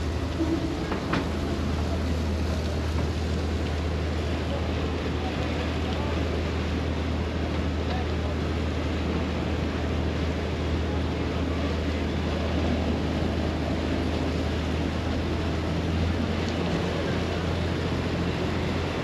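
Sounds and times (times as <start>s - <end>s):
diesel engine droning: 0.0s - 19.0s
water rushing in boat's wake: 0.0s - 19.0s.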